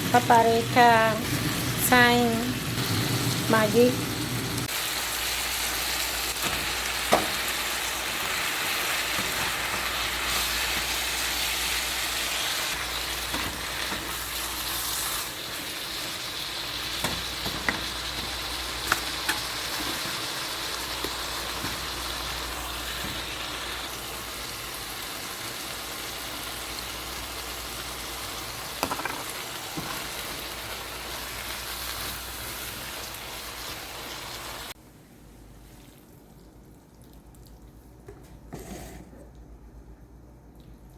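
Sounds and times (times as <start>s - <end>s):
food sizzling in a pan: 0.0s - 34.8s.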